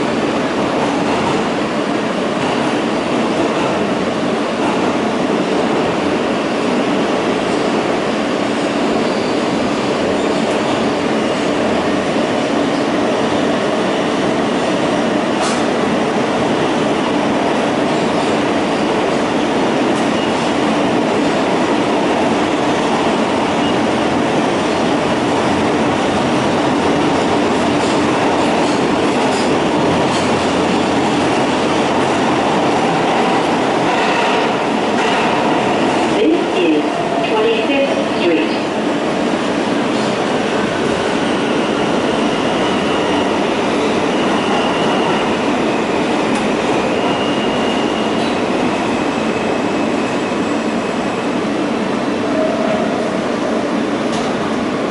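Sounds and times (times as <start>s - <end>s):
subway train rumble: 0.0s - 54.9s.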